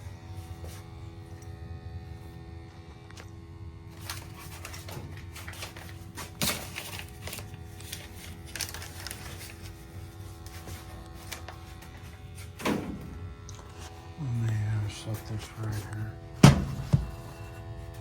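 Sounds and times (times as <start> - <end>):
gas water heater rumbling: 3.4 - 18.0.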